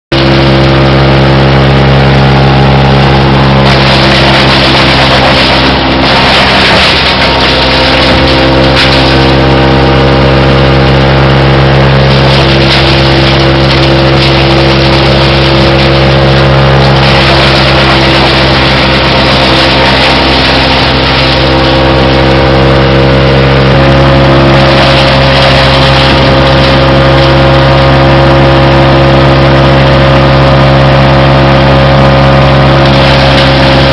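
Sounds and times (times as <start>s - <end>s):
wood chipper engine running: 0.1s - 33.9s.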